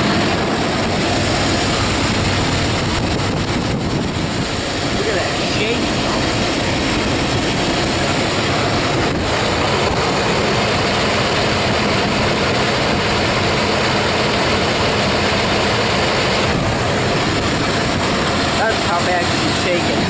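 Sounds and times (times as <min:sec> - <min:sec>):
rough engine idling: 0:00.0 - 0:20.0
wind noise on microphone: 0:00.0 - 0:20.0.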